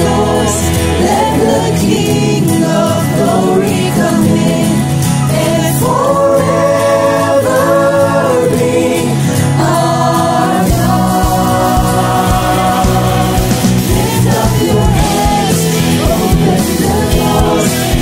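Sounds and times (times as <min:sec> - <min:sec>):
acoustic guitar: 0:00.0 - 0:18.0
electric guitar: 0:00.0 - 0:18.0
group singing worship song: 0:00.0 - 0:18.0
keyboard: 0:00.0 - 0:18.0.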